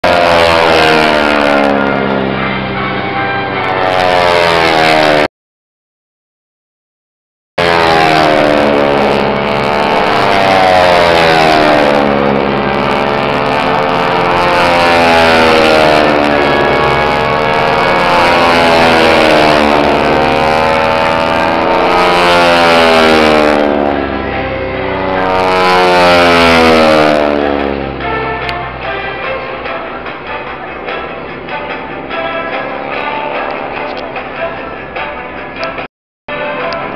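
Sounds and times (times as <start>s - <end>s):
propeller planes droning overhead: 0.0s - 5.3s, 7.6s - 36.9s.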